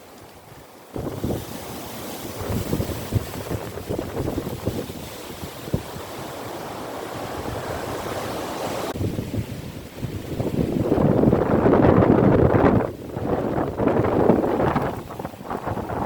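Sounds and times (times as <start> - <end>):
storm wind buffeting microphone: 0.9 - 16.0.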